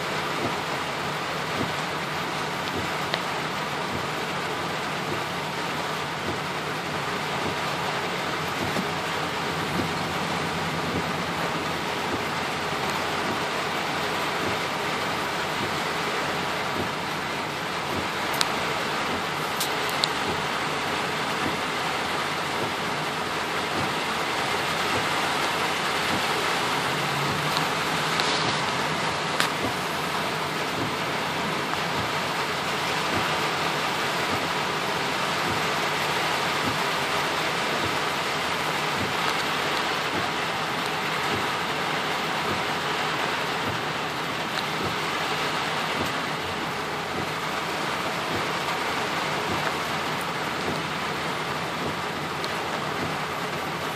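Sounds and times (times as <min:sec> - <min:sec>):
heavy rain on a car roof: 0:00.0 - 0:53.9.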